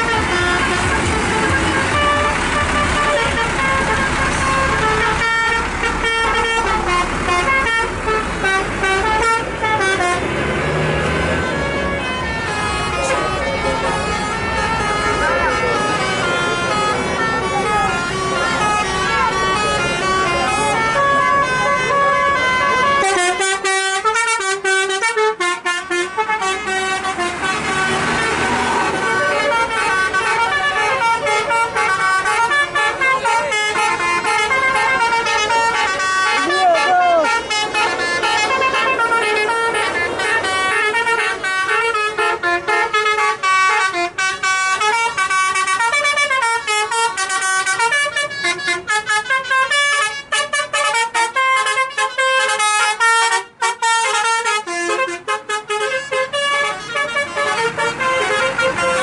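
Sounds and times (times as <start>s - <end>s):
bus engine rumbling: 0.0s - 59.0s
multi-tone bus horn tune: 0.0s - 59.0s.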